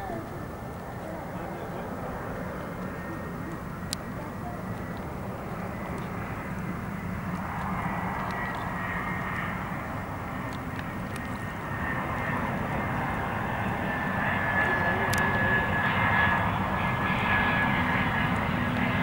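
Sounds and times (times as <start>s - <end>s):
jet engines rushing and whining: 0.0s - 19.0s.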